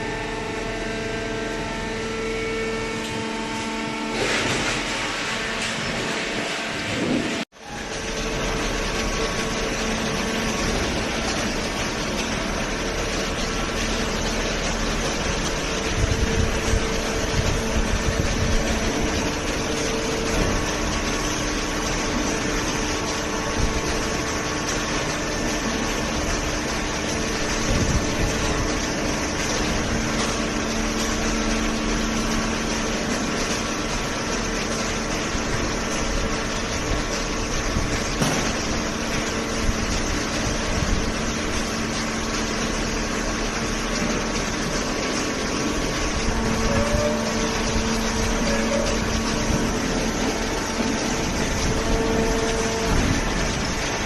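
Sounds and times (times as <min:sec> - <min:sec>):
hydraulic power unit humming: 0:00.0 - 0:54.0.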